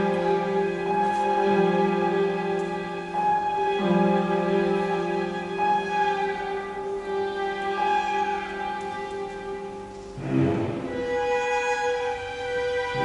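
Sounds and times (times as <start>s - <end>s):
orchestra playing slow music: 0.0s - 13.0s.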